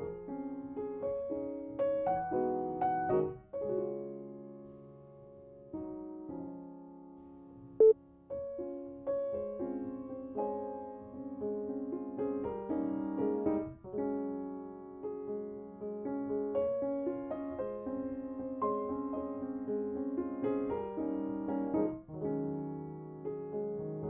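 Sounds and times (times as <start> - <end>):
calm piano music: 0.0 - 24.0.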